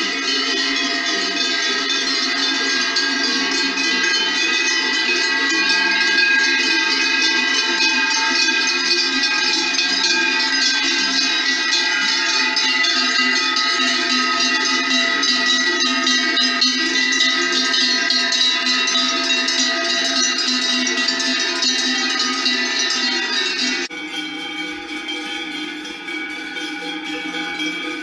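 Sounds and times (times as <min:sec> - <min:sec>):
cowbells clanging: 0:00.0 - 0:28.0.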